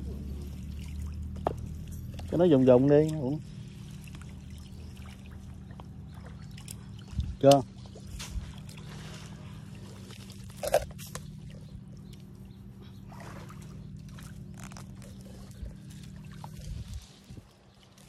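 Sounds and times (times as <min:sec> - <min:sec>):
low motor hum: 0:00.0 - 0:18.0
water sloshing and splashing: 0:00.0 - 0:18.0.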